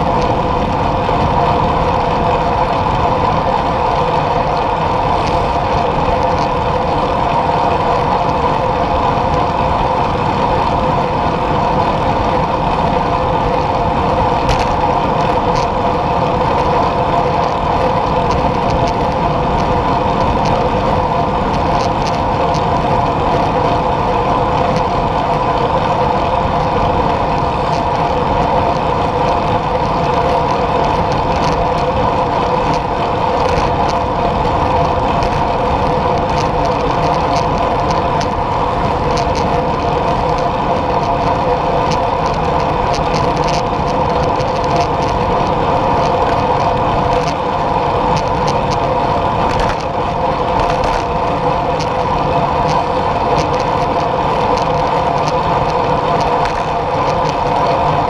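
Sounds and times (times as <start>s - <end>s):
constant hum: 0.0s - 58.0s
road noise: 0.0s - 58.0s
small ticks from road: 0.0s - 58.0s.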